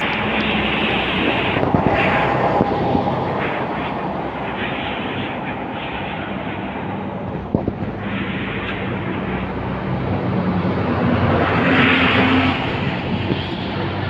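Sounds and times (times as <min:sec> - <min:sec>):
bus diesel engine hum: 0:00.0 - 0:14.0.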